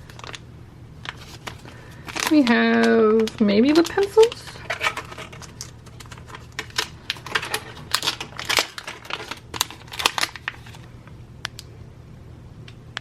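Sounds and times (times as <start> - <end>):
packaging clicks and crinkles: 0.0 - 0.4, 1.0 - 11.7.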